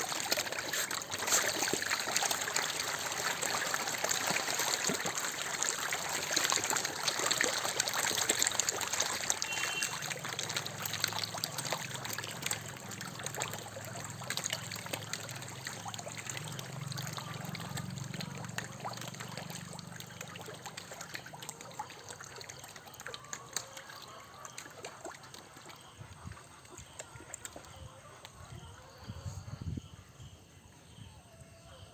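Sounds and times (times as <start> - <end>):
water trickling and splashing: 0.0 - 28.5.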